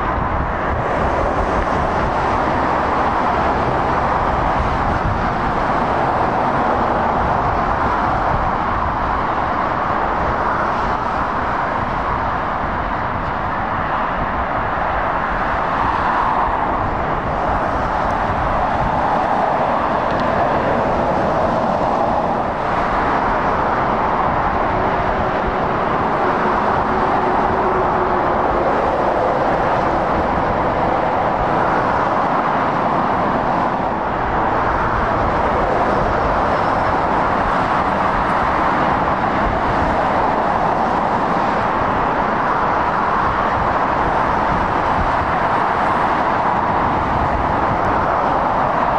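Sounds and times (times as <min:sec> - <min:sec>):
motorway traffic driving past: 0:00.0 - 0:48.9.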